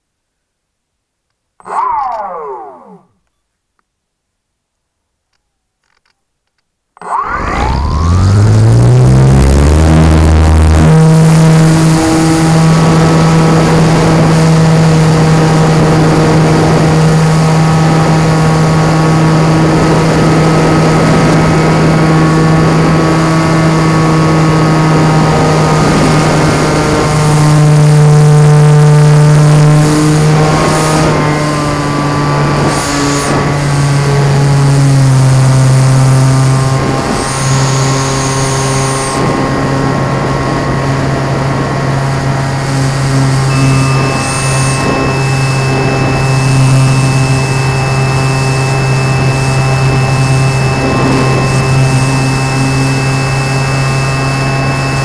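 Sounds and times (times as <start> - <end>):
model airplane motor droning: 1.6 - 3.2, 7.0 - 55.0.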